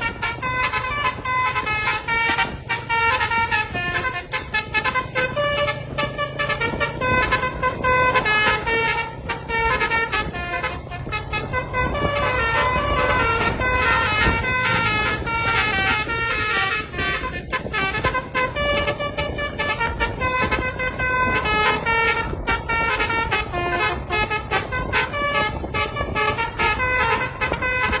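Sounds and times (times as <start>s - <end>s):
multi-tone bus horn tune: 0.0s - 28.0s.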